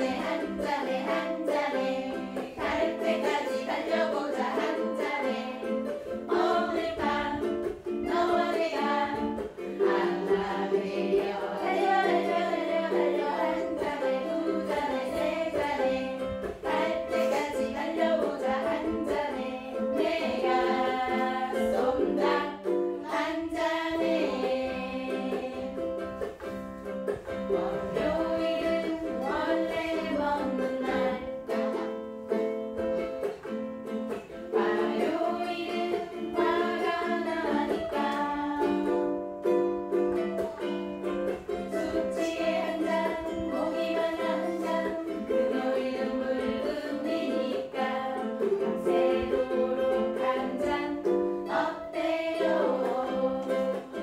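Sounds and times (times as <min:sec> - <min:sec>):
women singing: 0:00.0 - 0:26.4, 0:27.2 - 0:31.9, 0:34.2 - 0:39.4, 0:40.4 - 0:54.0
ukuleles strumming: 0:00.0 - 0:54.0.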